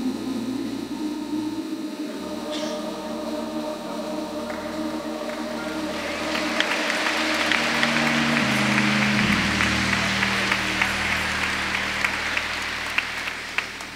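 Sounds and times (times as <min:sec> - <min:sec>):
low instrumental chords: 0:00.0 - 0:13.9
audience applauding: 0:02.3 - 0:13.9.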